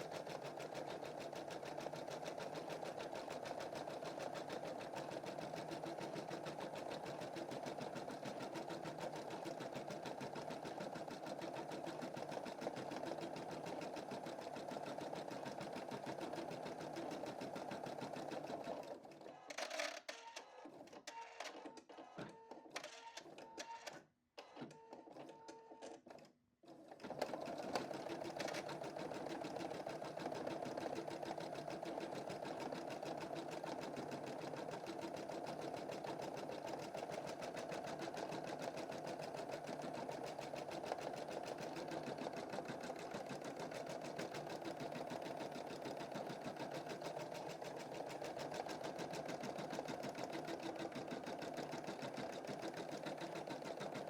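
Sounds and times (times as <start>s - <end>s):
embroidery machine stitching: 0.0s - 19.5s, 26.1s - 54.0s.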